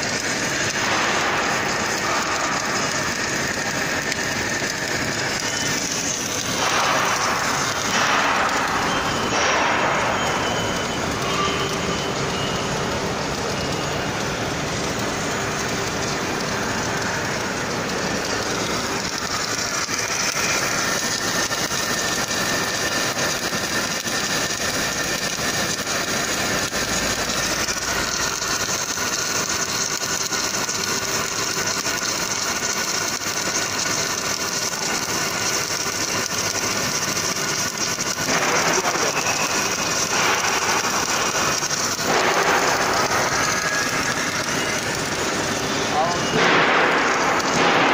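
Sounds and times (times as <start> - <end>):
welding arc hissing: 0.0 - 47.9.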